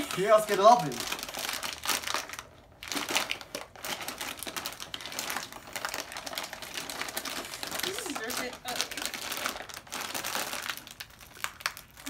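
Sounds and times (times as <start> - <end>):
chip bag crinkling: 0.0 - 12.0.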